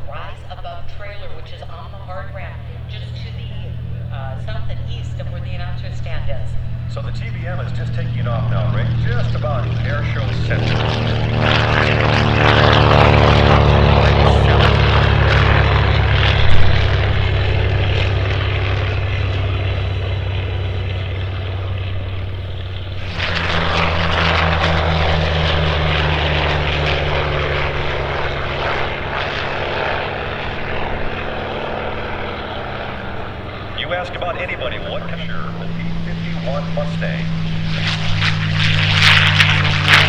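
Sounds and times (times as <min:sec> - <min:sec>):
propeller plane engine passing: 0:00.0 - 0:40.0.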